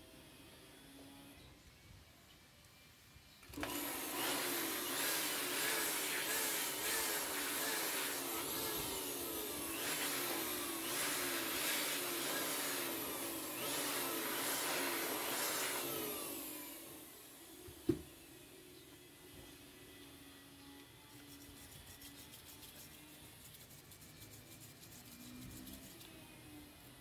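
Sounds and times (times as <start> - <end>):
small electric motor whirring: 2.7 - 27.0.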